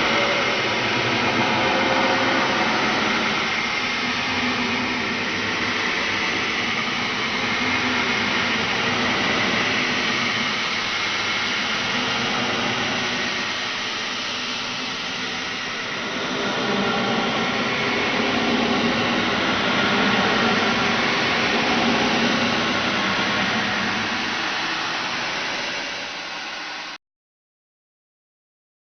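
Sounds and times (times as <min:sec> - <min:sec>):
horror drone rushing noise: 0:00.0 - 0:27.0.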